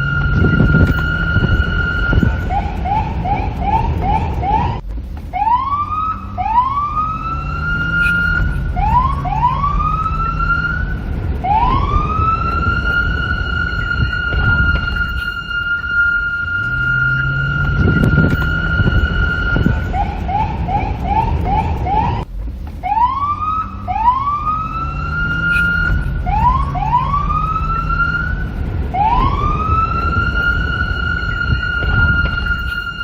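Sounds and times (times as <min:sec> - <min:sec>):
low rumble: 0:00.0 - 0:33.0
police car siren: 0:00.0 - 0:33.0.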